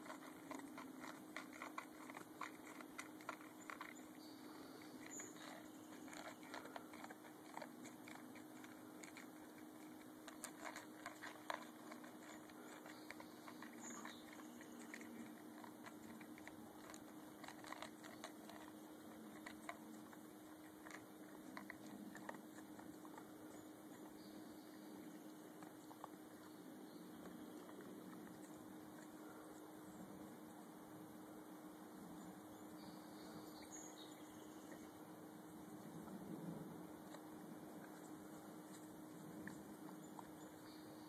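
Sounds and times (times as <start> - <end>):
dog crunching food: 0.0 - 29.5, 37.0 - 41.0.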